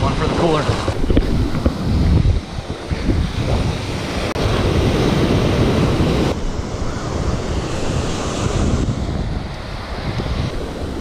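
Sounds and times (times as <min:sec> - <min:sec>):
ocean surf washing ashore: 0:00.0 - 0:11.0
wind rumbling on microphone: 0:00.0 - 0:11.0.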